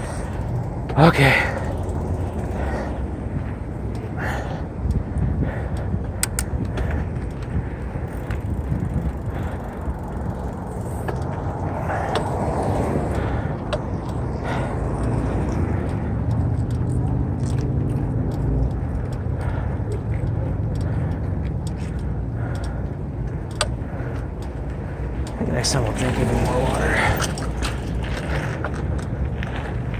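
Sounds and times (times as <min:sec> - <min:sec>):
bicycle tyre rumble: 0:00.0 - 0:29.9
bike clicks and rattles: 0:00.0 - 0:29.9
wind: 0:00.0 - 0:29.9.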